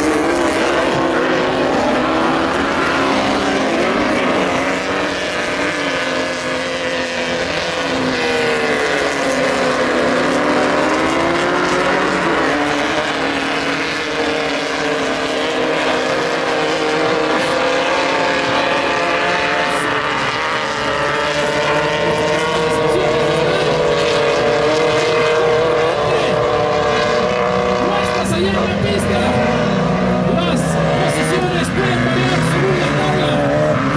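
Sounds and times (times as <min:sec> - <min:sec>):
off-road race engines revving: 0:00.0 - 0:33.9.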